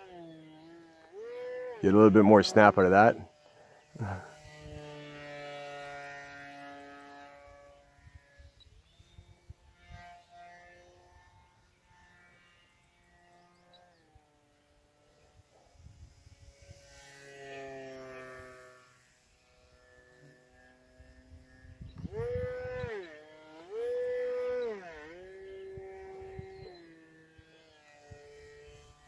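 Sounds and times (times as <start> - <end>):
electric motor and propeller whining: 0.0 - 29.0.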